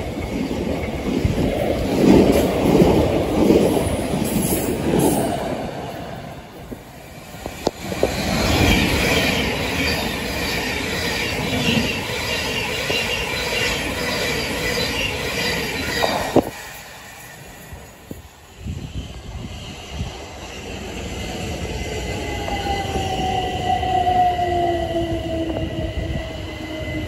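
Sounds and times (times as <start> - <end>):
electric train passing: 0.0 - 27.0.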